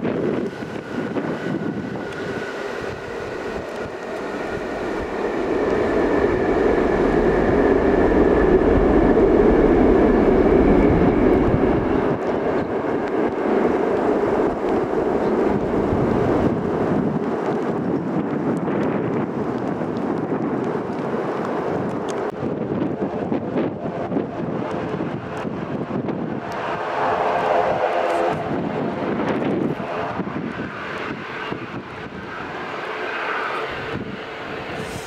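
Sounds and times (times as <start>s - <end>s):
jet engines roaring: 0.0s - 35.0s
wind buffeting microphone: 0.0s - 35.0s.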